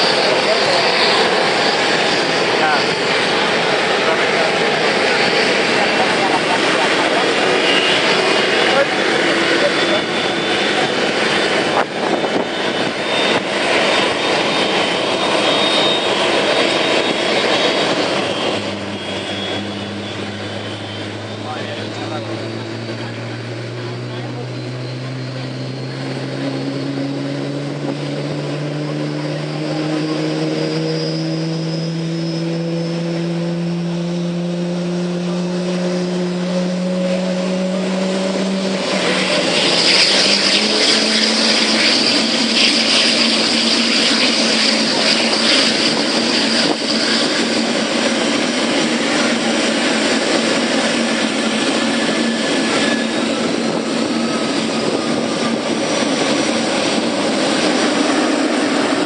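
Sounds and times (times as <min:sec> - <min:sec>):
jet engines spooling up: 0:00.0 - 0:59.0.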